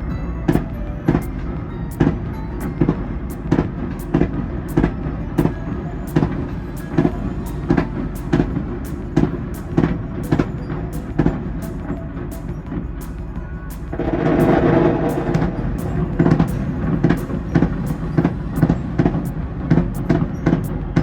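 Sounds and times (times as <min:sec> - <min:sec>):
continuous low rumble: 0:00.0 - 0:21.0
muffled fireworks bursting: 0:00.4 - 0:21.0.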